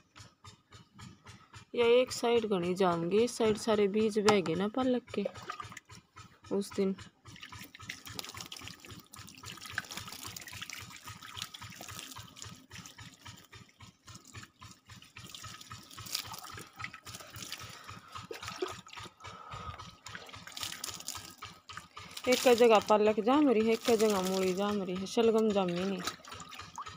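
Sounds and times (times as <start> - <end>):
water trickling along furrows: 0.0 - 26.9.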